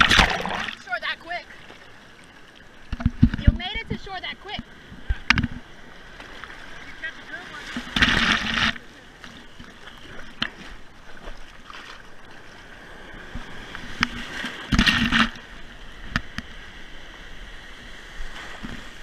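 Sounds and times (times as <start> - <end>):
beach surf swishing and splashing: 0.0 - 19.0
wave splash: 0.0 - 19.0.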